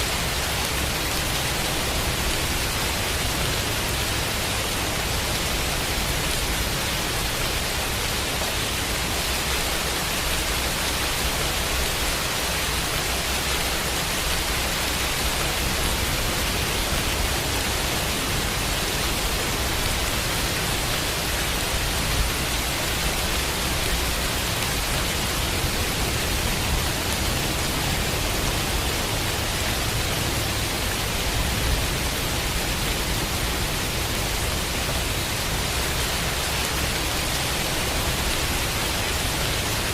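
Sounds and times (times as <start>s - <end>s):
steady rain: 0.0s - 39.9s
white noise: 0.0s - 39.9s.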